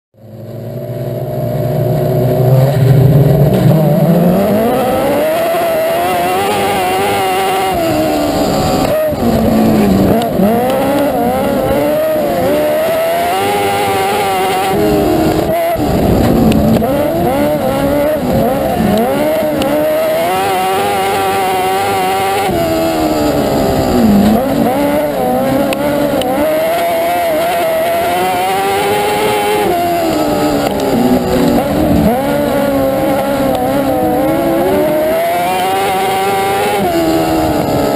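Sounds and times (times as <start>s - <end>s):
racing engine at full throttle: 0.2s - 37.9s.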